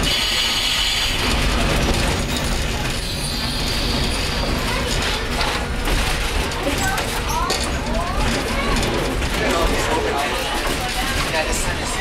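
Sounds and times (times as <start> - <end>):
railcar wheels on rails: 0.0 - 12.0.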